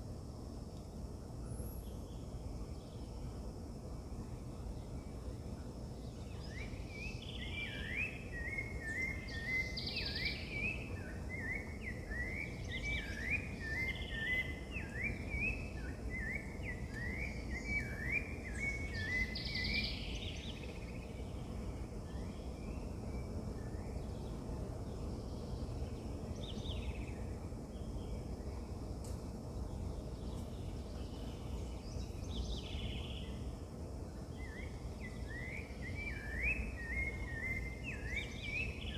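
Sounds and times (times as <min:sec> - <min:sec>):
steady low background noise: 0:00.0 - 0:38.9.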